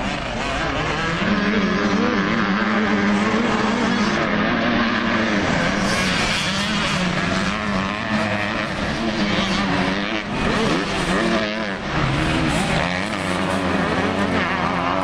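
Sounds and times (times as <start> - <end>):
motocross motorcycle engines racing: 0.0 - 15.0.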